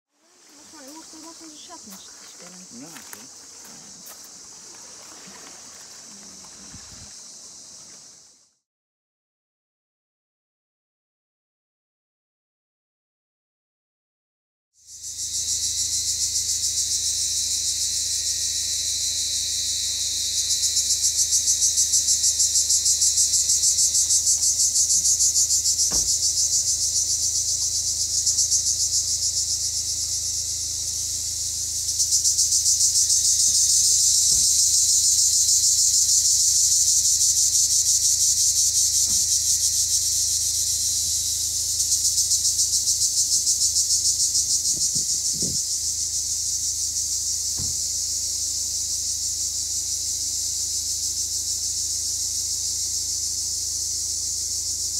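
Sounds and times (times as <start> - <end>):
cicadas buzzing: 0.2 - 8.6, 14.8 - 54.9.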